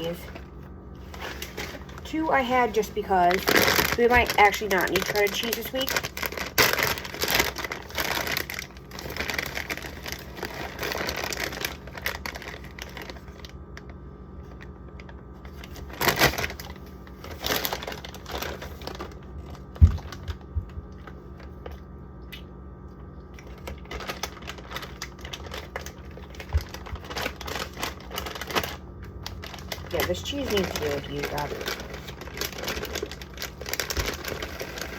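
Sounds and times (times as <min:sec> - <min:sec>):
plastic bags crinkling: 0:00.0 - 0:22.0, 0:23.4 - 0:34.9.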